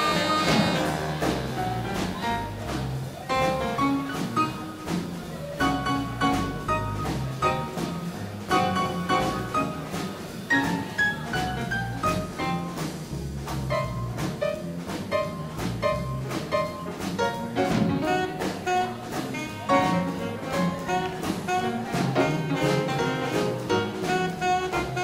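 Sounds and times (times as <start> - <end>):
big band swing jazz: 0.0 - 25.0.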